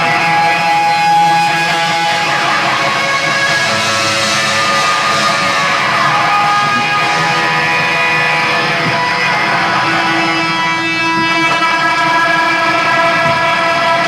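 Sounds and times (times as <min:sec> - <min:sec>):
electric guitar strumming: 0:00.0 - 0:14.0
live rock band playing: 0:00.0 - 0:14.0.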